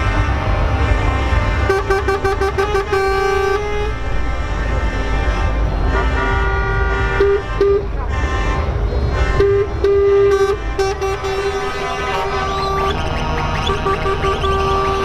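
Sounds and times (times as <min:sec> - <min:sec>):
truck engines rumbling: 0:00.0 - 0:15.0
truck horns honking: 0:00.0 - 0:15.0.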